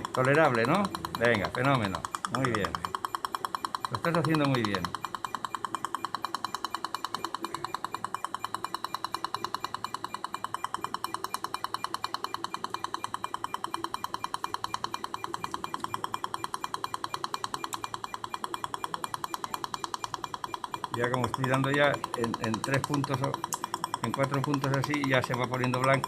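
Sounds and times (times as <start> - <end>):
laser firing clicks: 0.0 - 26.0.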